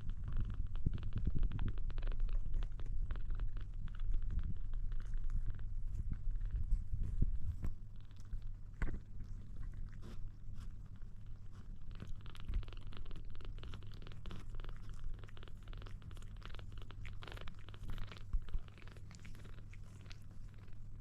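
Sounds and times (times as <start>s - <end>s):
kitten purring: 0.0s - 21.0s.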